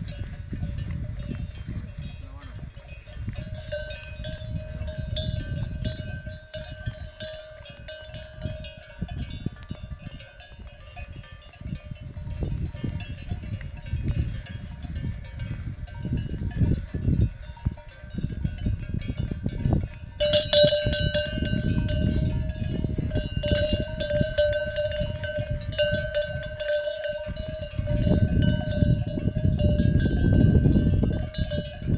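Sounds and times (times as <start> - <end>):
cowbells clanking: 0.0 - 31.9.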